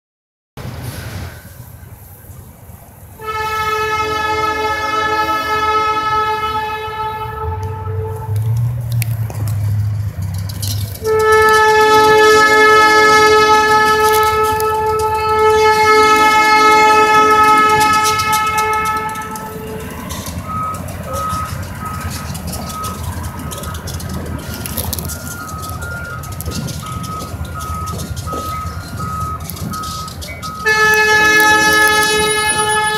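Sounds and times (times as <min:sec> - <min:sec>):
passing train rumble: 0:00.6 - 0:32.9
road traffic: 0:00.6 - 0:32.9
locomotive air horn blasts: 0:03.2 - 0:08.7, 0:10.9 - 0:32.9
crossing warning bell ringing: 0:03.2 - 0:32.9.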